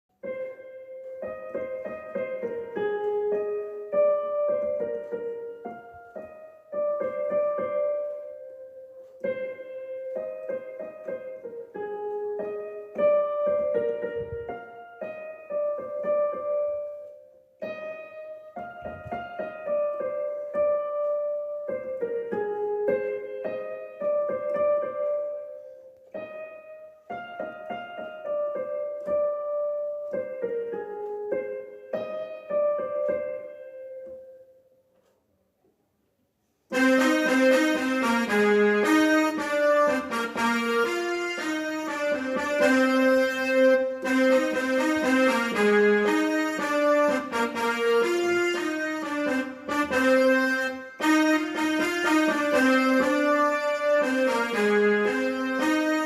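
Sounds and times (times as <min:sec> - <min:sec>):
piano melody: 0:00.1 - 0:34.9, 0:36.7 - 0:56.0.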